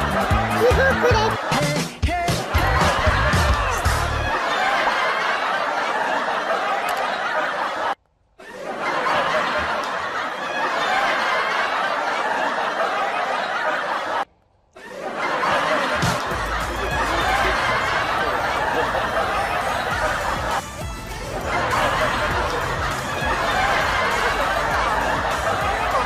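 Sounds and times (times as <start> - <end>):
group of people laughing: 0.0 - 26.0.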